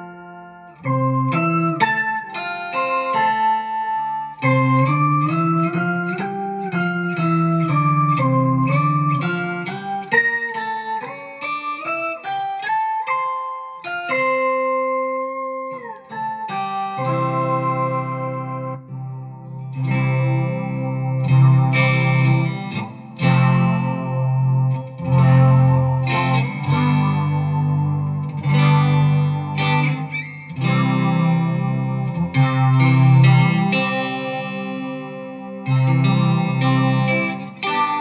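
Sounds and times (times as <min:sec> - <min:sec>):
guitar synth tones: 0:00.0 - 0:38.0.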